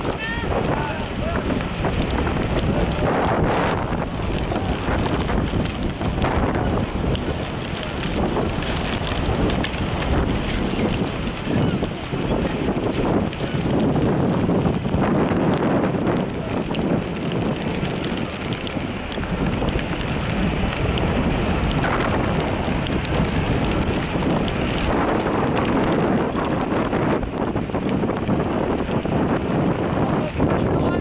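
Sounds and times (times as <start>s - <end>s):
rain and wind on microphone: 0.0s - 31.0s
rain drops ticking: 0.0s - 31.0s.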